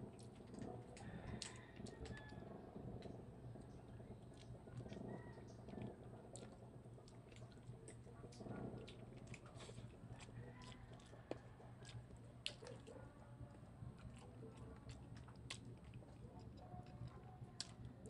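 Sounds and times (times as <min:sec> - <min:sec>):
low steady hum: 0:00.0 - 0:18.0
wet chewing and mouth smacking: 0:00.0 - 0:18.0.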